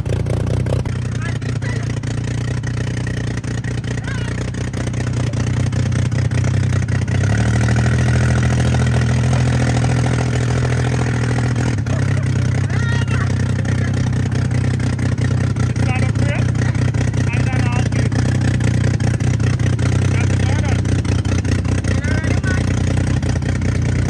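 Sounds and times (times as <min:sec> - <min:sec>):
dirt bike engine droning: 0:00.0 - 0:24.0.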